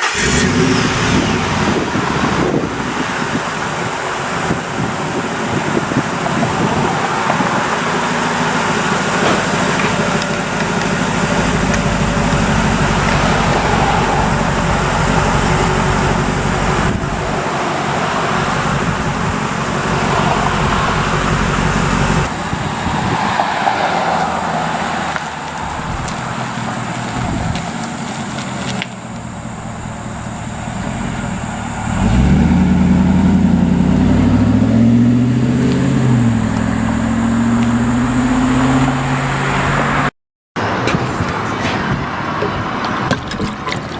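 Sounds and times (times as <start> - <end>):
truck engine revving: 0.0 - 43.9.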